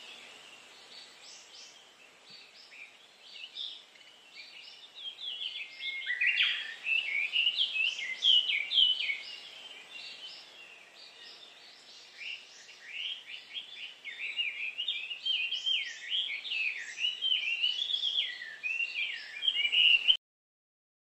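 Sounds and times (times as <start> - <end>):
birds singing: 0.0 - 20.2.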